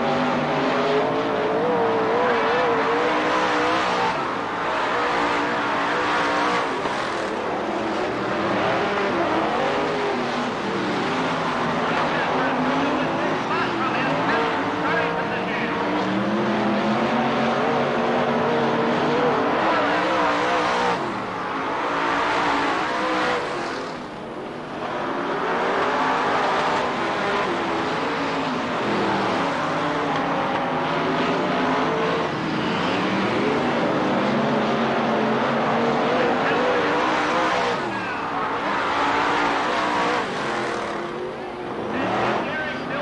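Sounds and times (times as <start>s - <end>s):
race car engines at full throttle: 0.0s - 43.0s.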